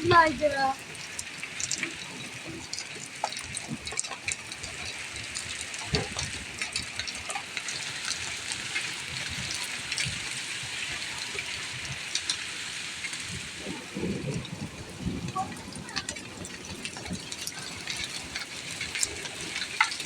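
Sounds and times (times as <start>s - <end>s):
hailstones ticking on hard surfaces: 0.0s - 20.0s
rain falling: 0.0s - 20.0s.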